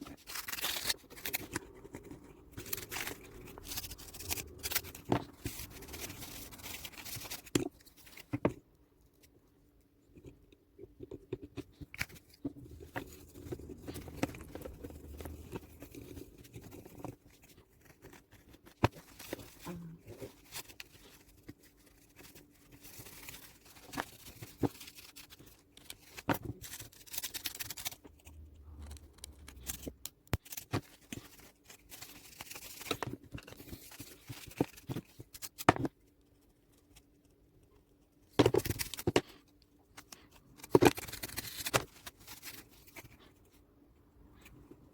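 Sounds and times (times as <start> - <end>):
small plastic parts clicking and scraping: 0.0 - 43.6.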